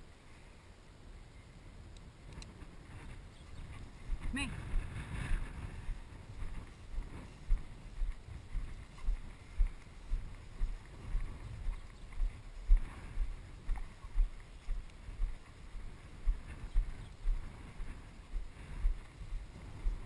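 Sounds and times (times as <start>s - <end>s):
footsteps through wet grass: 2.9s - 20.0s.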